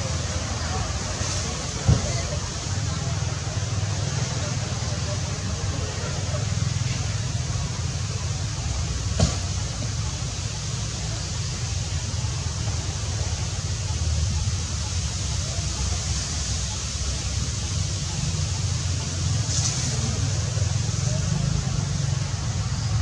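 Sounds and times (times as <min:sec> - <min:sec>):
constant high hiss: 0:00.0 - 0:23.0.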